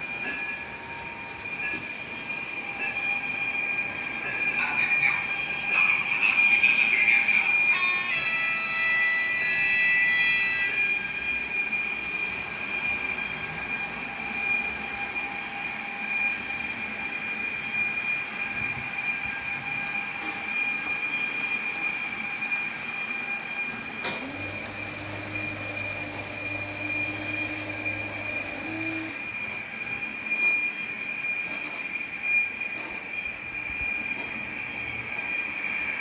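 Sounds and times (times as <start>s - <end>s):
model train sound effects: 0.0s - 36.0s
steady high whine: 0.0s - 36.0s.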